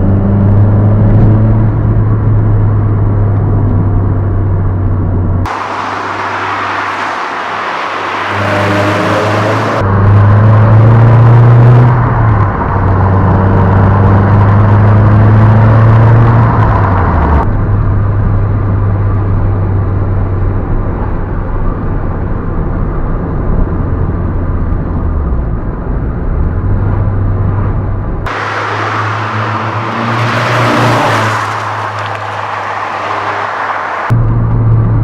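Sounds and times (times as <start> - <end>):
car engine under load: 0.0 - 35.0.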